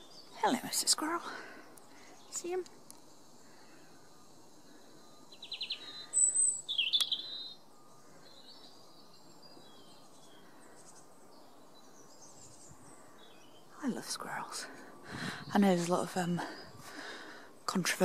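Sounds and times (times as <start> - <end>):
songbirds calling: 0.0 - 18.0.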